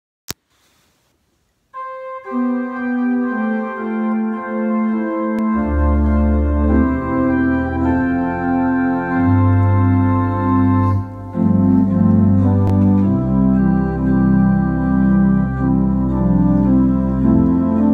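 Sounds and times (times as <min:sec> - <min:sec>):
deep organ bass notes: 0:01.8 - 0:17.9
organ playing slow chords: 0:01.8 - 0:17.9.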